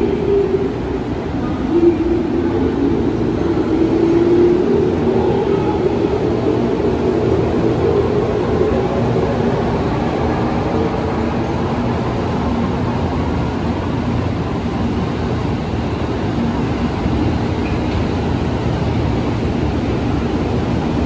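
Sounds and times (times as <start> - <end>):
faint hum: 0.0 - 21.0
train running rumble: 0.0 - 21.0.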